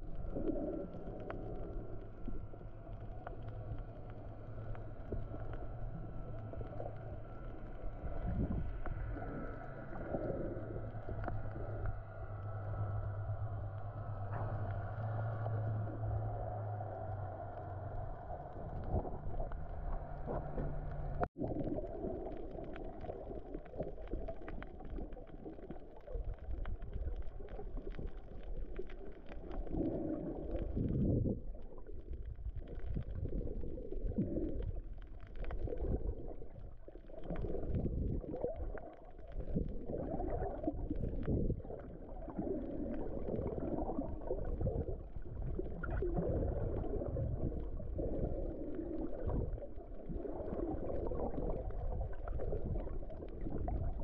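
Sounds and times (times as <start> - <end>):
underwater rumbling and gurgling: 0.0 - 54.0.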